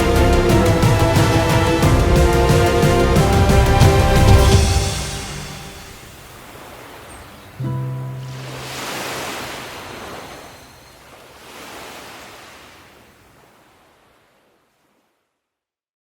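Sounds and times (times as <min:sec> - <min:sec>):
sea waves washing in: 0:00.0 - 0:15.2.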